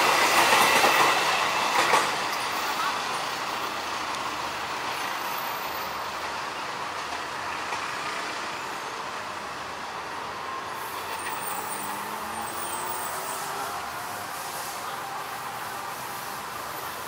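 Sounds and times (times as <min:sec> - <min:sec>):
train wheels rolling on rails: 0:00.0 - 0:17.0.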